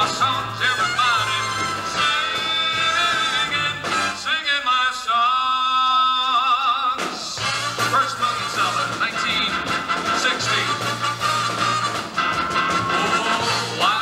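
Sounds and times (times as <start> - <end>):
backing band playing: 0.0 - 4.4, 7.0 - 14.0
man singing into a microphone: 0.0 - 11.0, 12.9 - 14.0.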